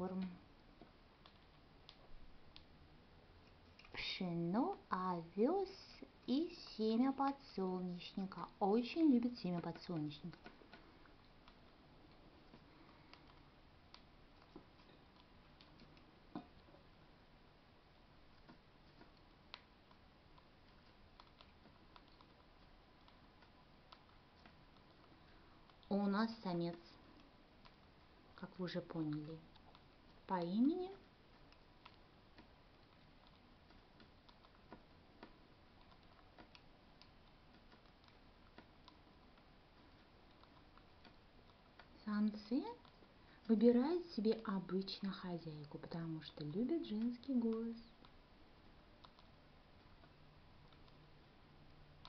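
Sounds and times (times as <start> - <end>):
bird beak pecking at seeds: 3.4 - 52.0.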